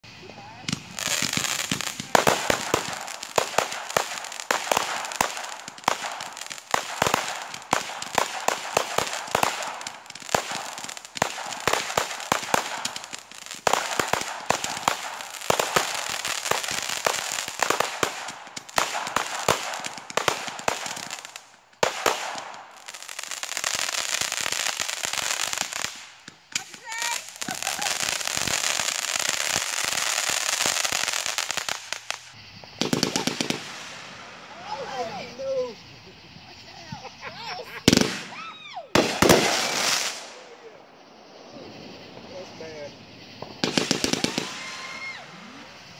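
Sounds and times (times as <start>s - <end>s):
fireworks crackling and popping: 0.0s - 45.9s
fireworks hiss: 0.0s - 45.9s
fireworks bangs: 0.1s - 45.9s.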